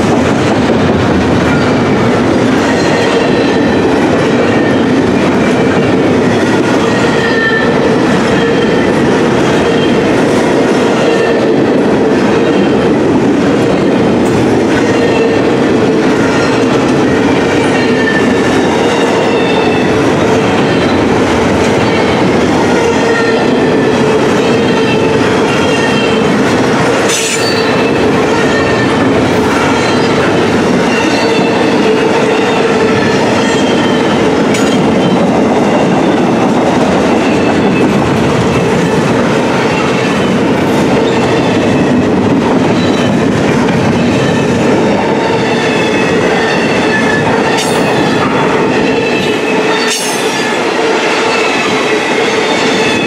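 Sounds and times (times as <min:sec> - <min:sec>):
freight train wheels on rail: 0:00.0 - 0:53.0.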